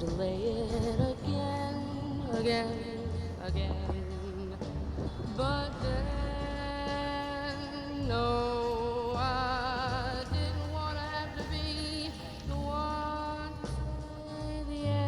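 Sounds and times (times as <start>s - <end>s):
low bass: 0.0s - 15.0s
wordless singing with vibrato: 0.0s - 15.0s.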